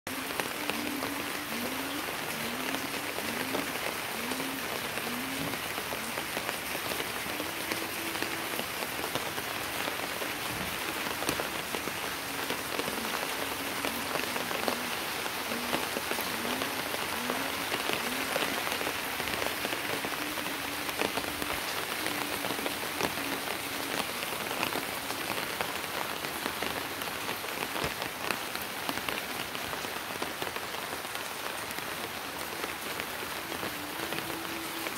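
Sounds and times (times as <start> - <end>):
rain on concrete and leaves: 0.1 - 34.9.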